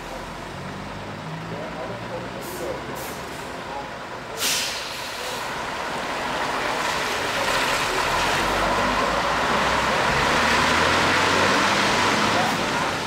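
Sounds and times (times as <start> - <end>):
second truck engine: 0.0 - 13.0
truck pulling away on wet road: 0.0 - 13.0.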